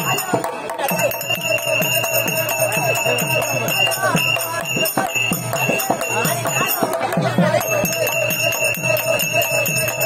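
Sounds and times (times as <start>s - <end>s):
drum strokes: 0.0s - 10.0s
jingling bells: 0.0s - 10.0s.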